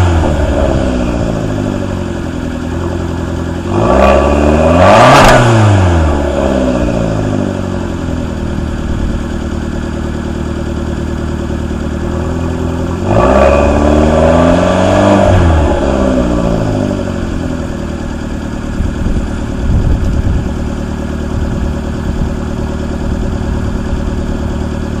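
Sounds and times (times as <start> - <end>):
car engine revving and idling: 0.0 - 25.0.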